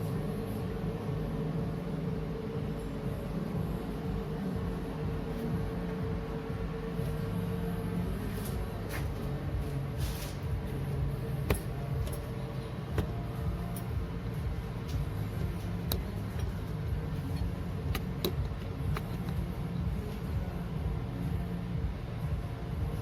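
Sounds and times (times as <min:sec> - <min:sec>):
machine pulsing hum: 0:00.0 - 0:23.0.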